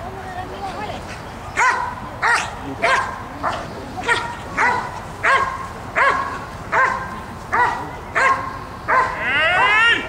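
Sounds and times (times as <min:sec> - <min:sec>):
dog barking: 0:01.6 - 0:09.8.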